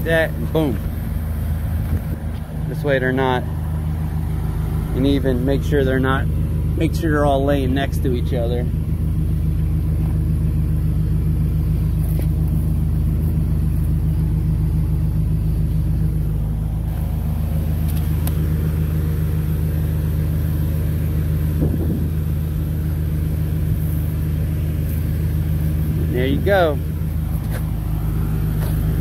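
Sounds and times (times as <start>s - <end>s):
pressure washer engine droning: 0.0s - 29.0s.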